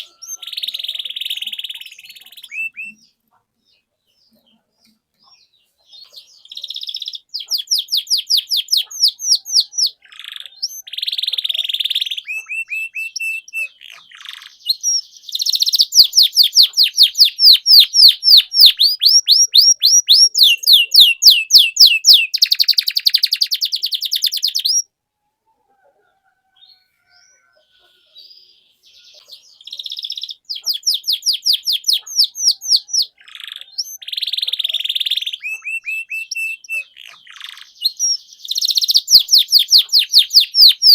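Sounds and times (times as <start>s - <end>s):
canary singing trills: 0.0s - 24.9s, 26.4s - 40.9s.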